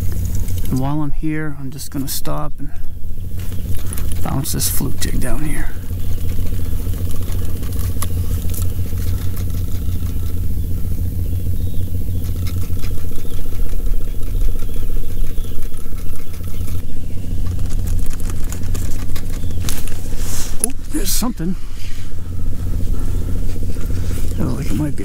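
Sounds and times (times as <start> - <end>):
trolling motor humming: 0.0 - 25.0.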